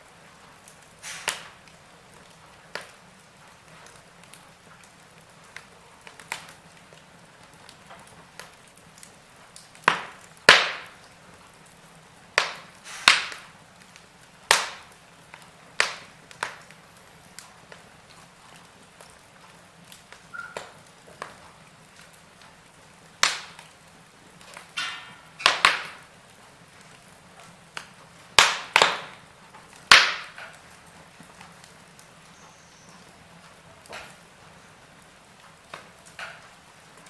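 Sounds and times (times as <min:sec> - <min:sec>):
wood fire crackling: 0:00.0 - 0:37.0
sharp pops and snaps: 0:00.6 - 0:26.2, 0:26.8 - 0:34.6, 0:35.4 - 0:37.0.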